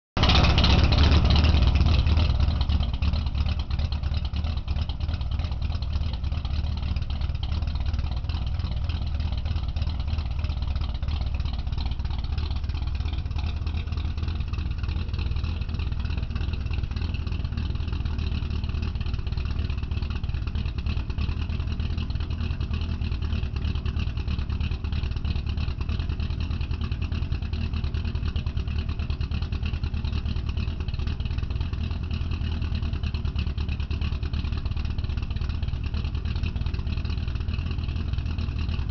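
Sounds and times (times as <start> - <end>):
car engine idling: 0.2 - 38.9.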